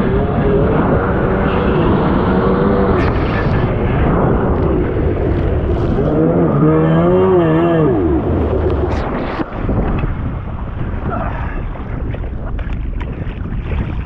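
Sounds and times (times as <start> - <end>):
jet ski engine running: 0.0 - 14.0
water splashing: 0.0 - 14.0
wind noise: 0.0 - 14.0.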